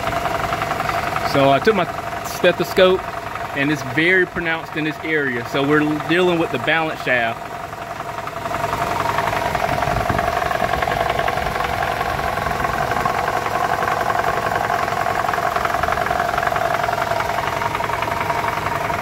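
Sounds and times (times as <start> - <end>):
car engine idling: 0.0 - 19.0
steady fast rattle: 0.0 - 19.0.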